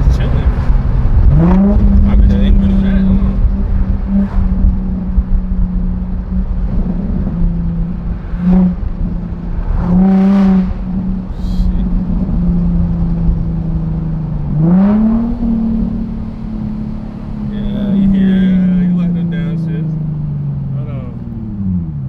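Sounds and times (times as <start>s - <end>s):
car exhaust droning: 0.0s - 22.0s
engine rev blips: 0.0s - 22.0s.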